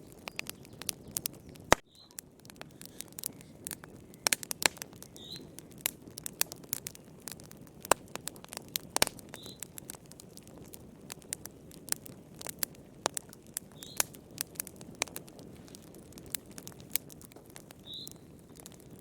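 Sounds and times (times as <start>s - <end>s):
fire crackling and popping: 0.0s - 19.0s
flames rushing: 2.4s - 19.0s.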